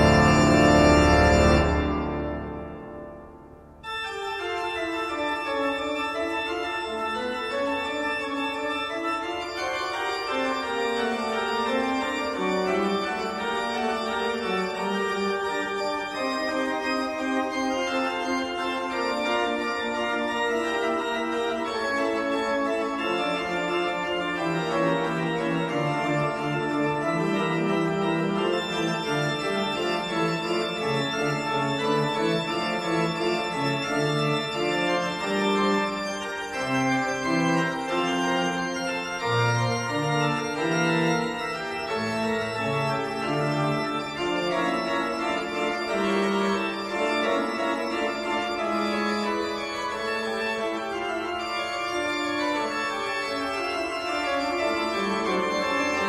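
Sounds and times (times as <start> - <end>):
organ music: 0.0 - 56.0.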